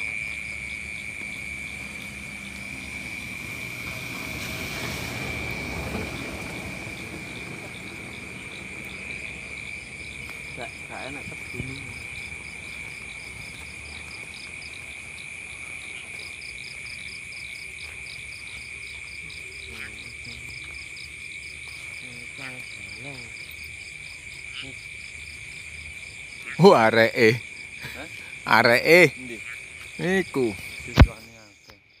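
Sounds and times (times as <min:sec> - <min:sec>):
crickets trilling: 0:00.0 - 0:32.0
pulsed insect chirping: 0:00.0 - 0:32.0.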